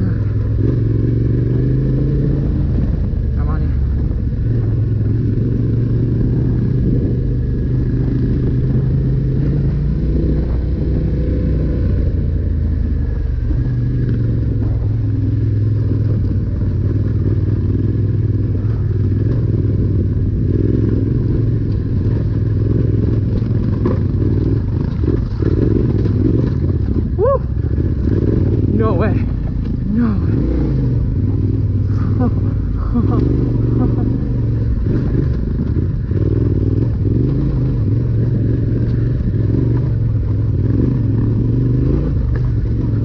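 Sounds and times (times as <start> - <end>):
motorcycle engine running: 0.0 - 43.0
tyres on gravel trail: 0.0 - 43.0.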